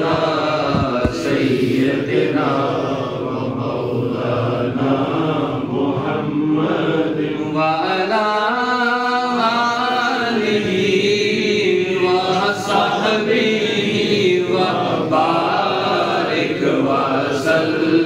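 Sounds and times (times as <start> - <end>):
man chanting devotional song: 0.0 - 18.0.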